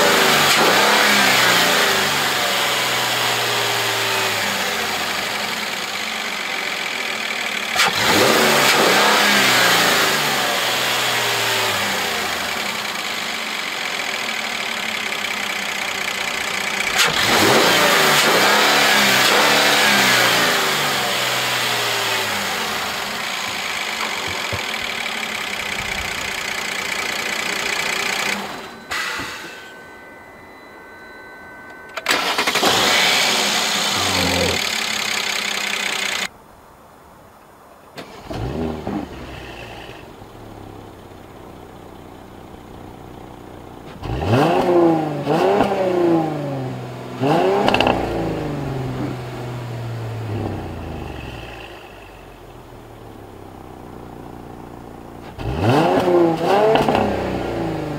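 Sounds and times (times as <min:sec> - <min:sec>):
loud steady engine rush: 0:00.0 - 0:36.3, 0:38.3 - 0:52.4, 0:54.0 - 0:57.9
engine idling with throttle blips: 0:00.0 - 0:36.4, 0:39.2 - 0:57.9.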